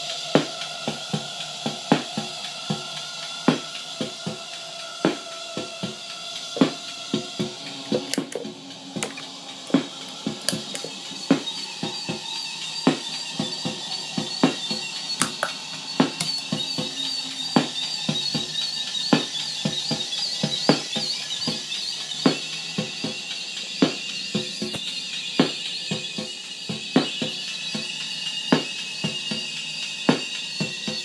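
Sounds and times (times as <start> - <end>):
droning tones: 0.0 - 31.0
high-pitched feedback squeal: 0.0 - 31.0.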